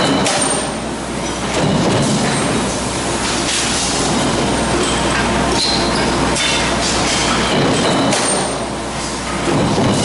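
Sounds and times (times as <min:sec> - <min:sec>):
metal clanks and knocks: 0:00.0 - 0:02.6, 0:03.5 - 0:10.0
low machinery hum: 0:00.0 - 0:10.0.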